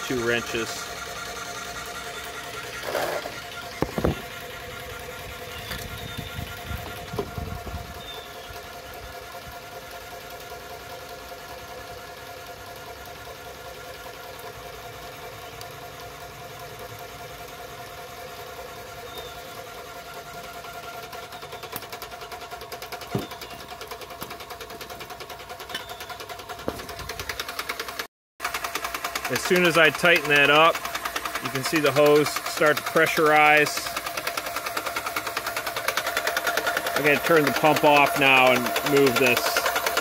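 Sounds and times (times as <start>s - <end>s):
paint sprayer pump humming: 0.0s - 40.0s.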